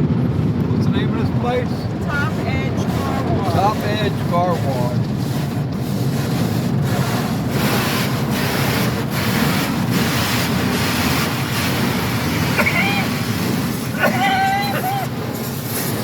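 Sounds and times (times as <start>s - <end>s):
water rushing over car: 0.0s - 16.0s
car wash brushes swishing: 0.5s - 16.0s.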